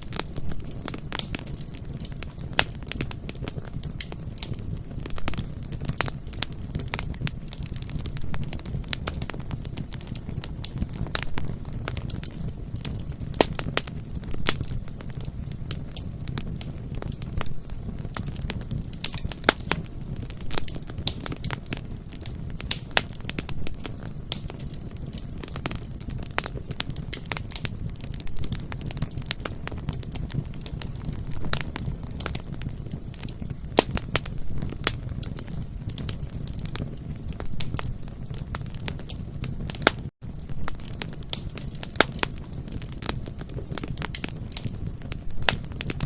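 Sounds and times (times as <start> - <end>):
bonfire crackling and popping: 0.0 - 46.0
low rumble of burning wood: 0.0 - 46.0.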